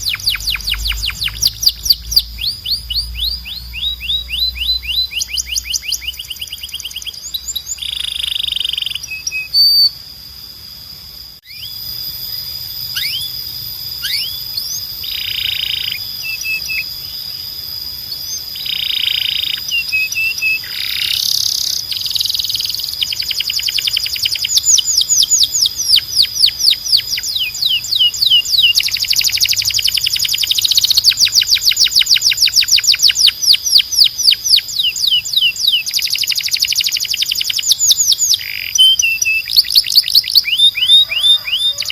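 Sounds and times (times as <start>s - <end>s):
canary singing trills: 0.0s - 10.1s, 11.4s - 41.9s.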